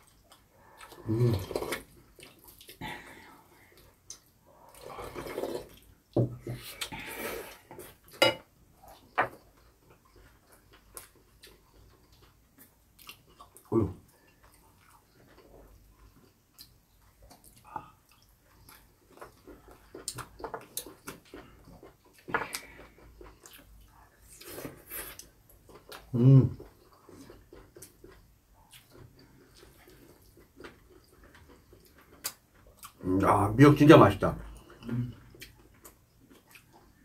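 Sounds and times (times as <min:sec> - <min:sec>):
chewing: 0:00.0 - 0:08.2, 0:08.8 - 0:33.1, 0:34.4 - 0:37.0.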